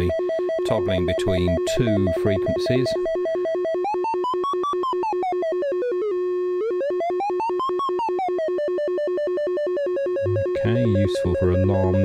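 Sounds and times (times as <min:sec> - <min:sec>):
synthesizer alarm-like warble: 0:01.9 - 0:12.0.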